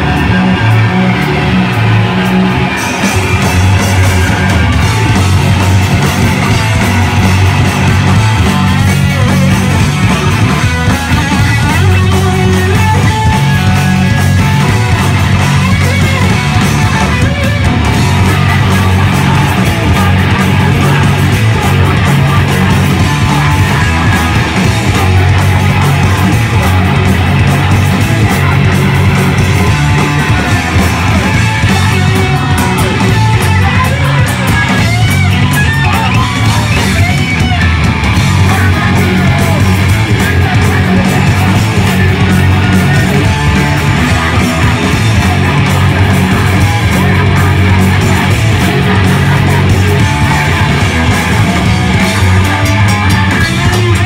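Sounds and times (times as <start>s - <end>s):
punk band playing live: 0.0s - 54.0s
singer shouting: 2.9s - 54.0s.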